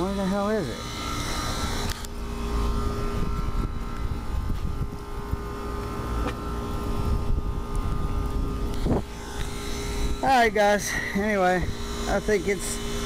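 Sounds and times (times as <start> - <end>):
air conditioning condenser humming: 0.0 - 13.0.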